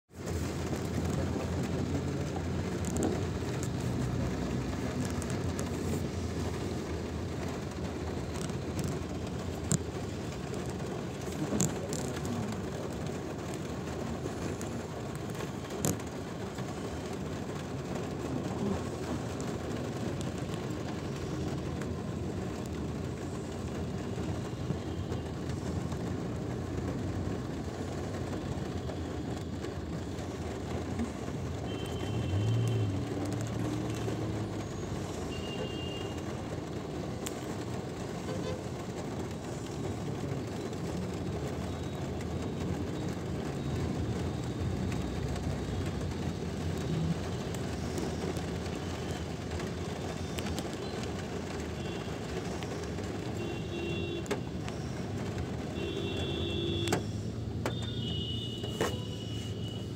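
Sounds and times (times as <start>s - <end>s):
car road noise in rain: 0.1s - 59.9s.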